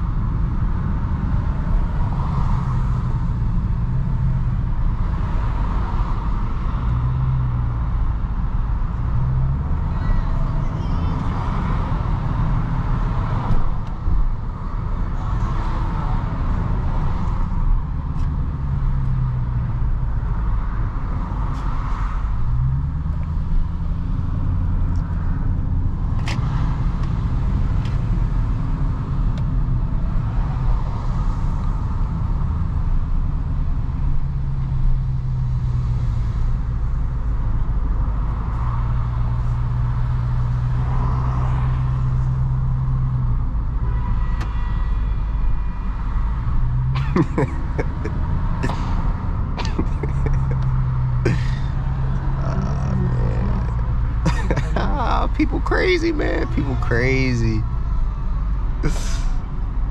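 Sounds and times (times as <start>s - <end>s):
car engine low rumble: 0.0s - 59.9s.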